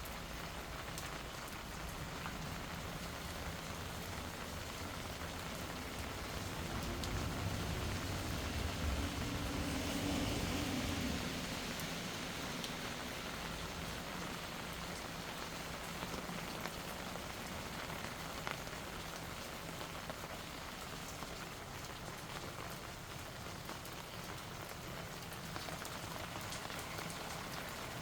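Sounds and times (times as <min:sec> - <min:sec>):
raindrops ticking: 0:00.0 - 0:28.0
steady rain hiss: 0:00.0 - 0:28.0.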